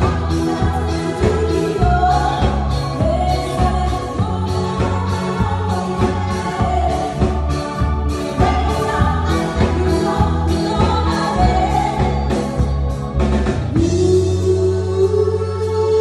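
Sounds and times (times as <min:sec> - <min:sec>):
woman singing: 0:00.0 - 0:13.0, 0:13.7 - 0:16.0
drum kit: 0:00.0 - 0:16.0
electric guitar: 0:00.0 - 0:16.0
keyboard: 0:00.0 - 0:16.0.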